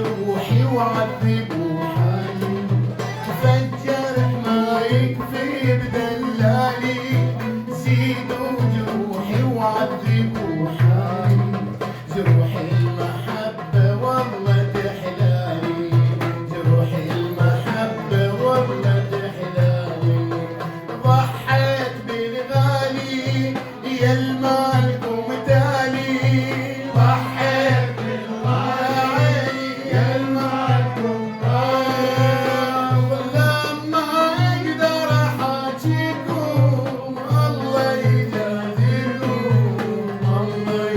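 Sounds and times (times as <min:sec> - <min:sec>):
band playing folk melody: 0:00.0 - 0:40.9.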